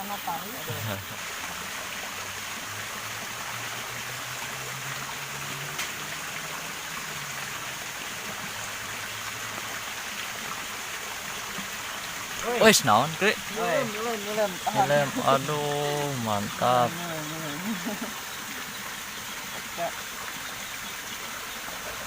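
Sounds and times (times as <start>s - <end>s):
water pouring into a ditch: 0.0s - 22.0s.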